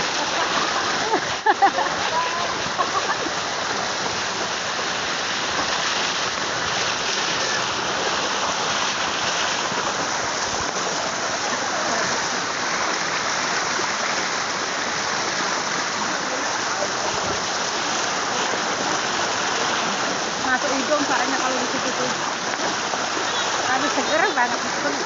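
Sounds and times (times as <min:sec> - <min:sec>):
waterfall pouring and splashing: 0:00.0 - 0:25.0.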